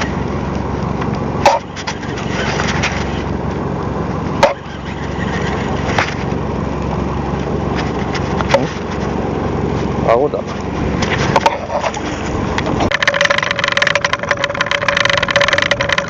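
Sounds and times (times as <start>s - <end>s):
fishing boat engine rumble: 0.0s - 16.0s.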